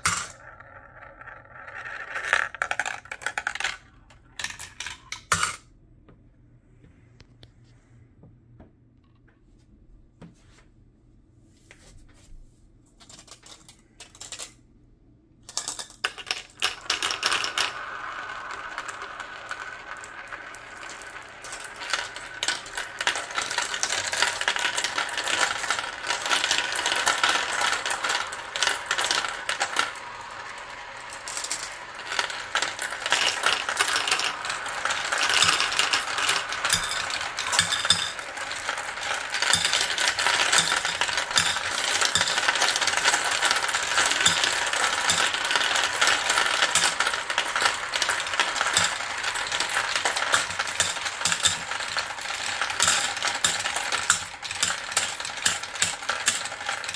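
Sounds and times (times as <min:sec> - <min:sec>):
marbles clattering on plastic track: 0:00.0 - 0:05.6, 0:13.0 - 0:14.6, 0:15.4 - 0:56.9.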